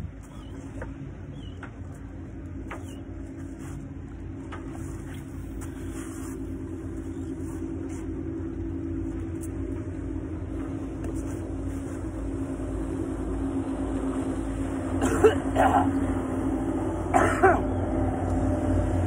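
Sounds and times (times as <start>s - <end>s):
motorboat engine rumbling: 0.0s - 19.0s.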